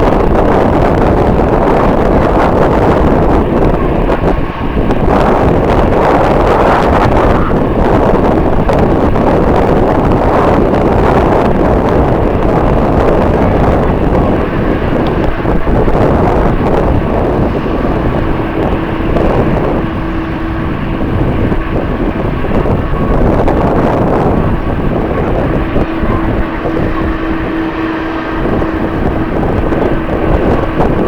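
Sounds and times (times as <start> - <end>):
jet engines running: 0.0 - 31.0
wind buffeting microphone: 0.0 - 31.0.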